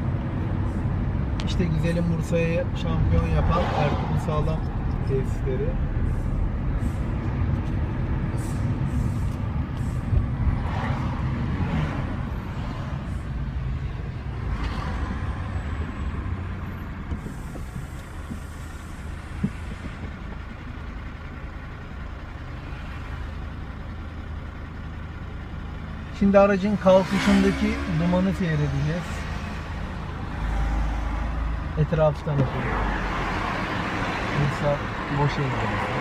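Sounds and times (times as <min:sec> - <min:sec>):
traffic engines humming: 0:00.0 - 0:36.0.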